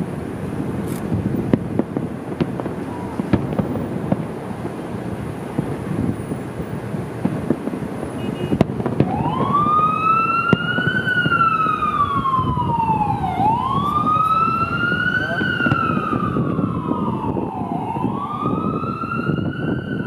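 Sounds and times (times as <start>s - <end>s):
fireworks bangs: 0.0s - 20.0s
emergency vehicle siren wailing: 2.0s - 20.0s.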